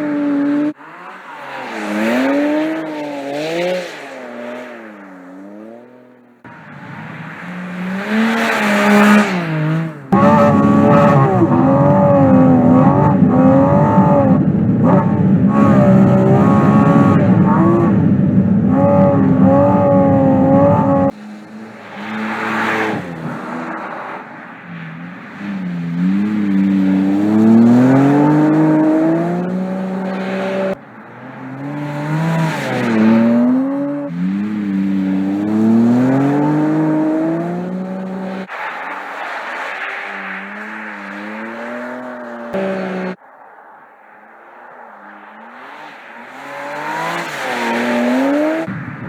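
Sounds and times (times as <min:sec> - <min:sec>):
car engine revving hard: 0:00.0 - 0:43.2, 0:45.1 - 0:49.0.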